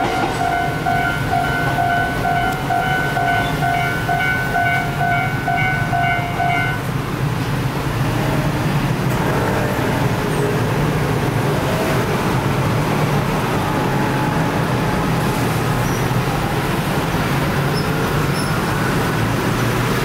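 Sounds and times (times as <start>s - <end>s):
scooters and cars driving: 0.0s - 20.0s.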